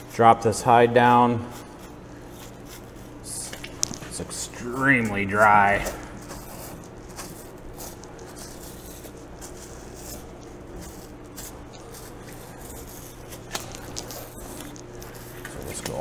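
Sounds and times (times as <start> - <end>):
steady low hum: 0.0 - 16.0
knife scraping hide: 1.4 - 16.0.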